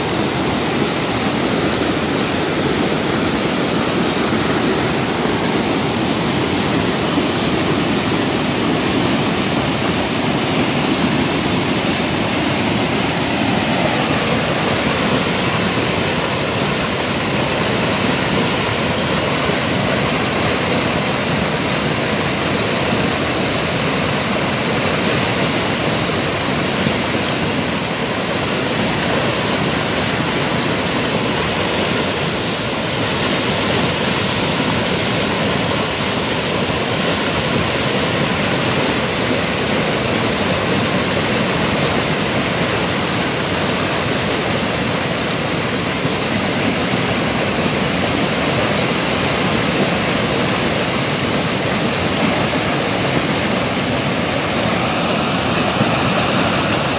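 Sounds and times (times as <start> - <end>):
water rushing over dam: 0.0 - 56.9.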